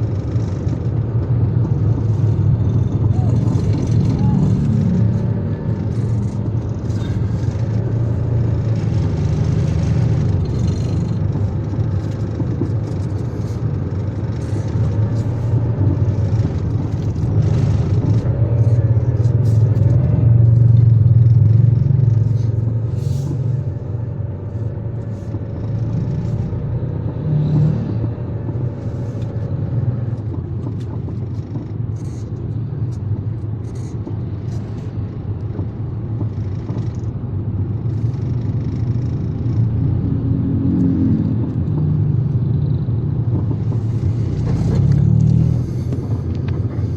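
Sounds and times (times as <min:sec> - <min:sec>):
road vehicle rumbling: 0:00.0 - 0:46.9.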